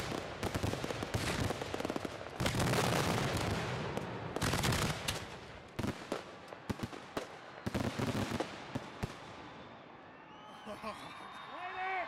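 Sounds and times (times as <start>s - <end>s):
fireworks bangs and crackle: 0.0s - 9.7s.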